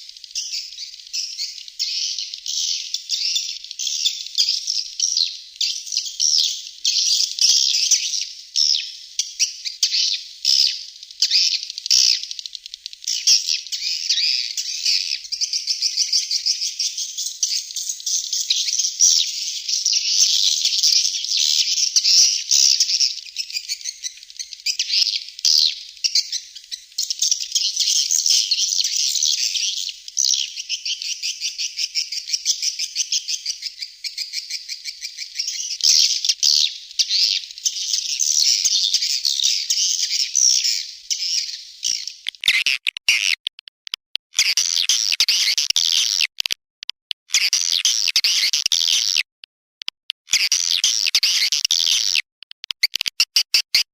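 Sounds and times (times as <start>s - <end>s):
rapid high bird chirps and trills: 0.0s - 53.9s.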